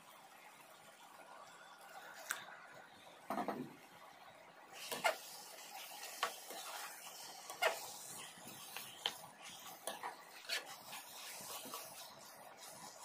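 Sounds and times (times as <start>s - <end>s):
faint cooking hiss: 0.0s - 13.0s.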